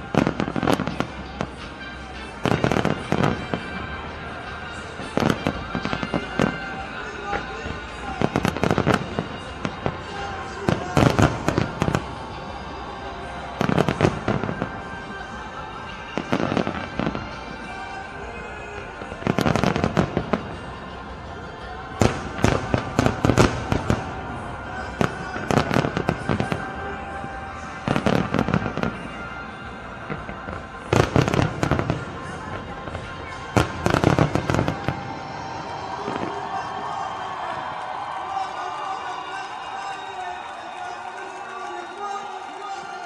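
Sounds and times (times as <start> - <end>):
fireworks bangs and crackles: 0.0 - 40.7
faint background music: 0.0 - 43.0.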